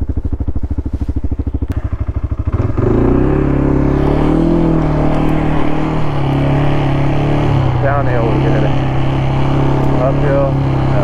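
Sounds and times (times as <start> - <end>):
atv engine idling and revving: 0.0 - 11.0.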